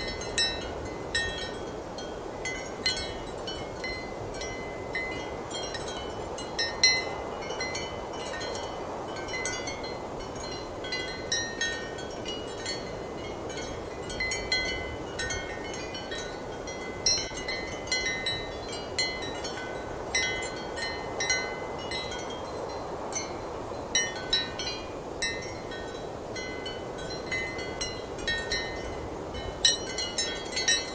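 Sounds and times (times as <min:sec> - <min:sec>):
ceramic wind chimes clinking: 0:00.0 - 0:30.9.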